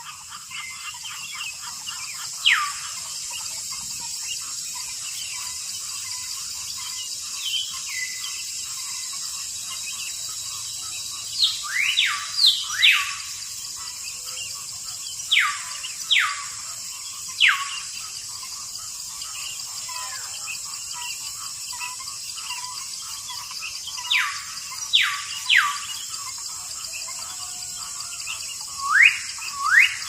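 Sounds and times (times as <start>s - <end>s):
birds chirping and whistling: 0.0s - 30.0s.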